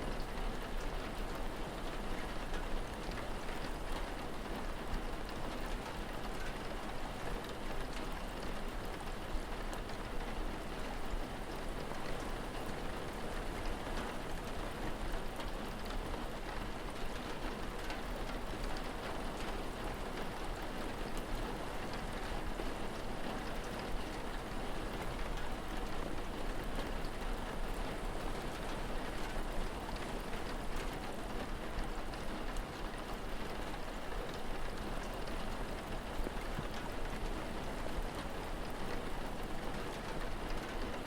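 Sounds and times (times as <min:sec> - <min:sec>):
rain falling: 0:00.1 - 0:41.0.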